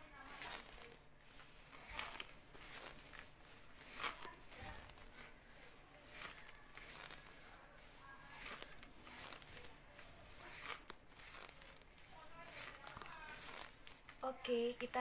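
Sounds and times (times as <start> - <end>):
exercise machine rubbing: 0.0 - 15.0.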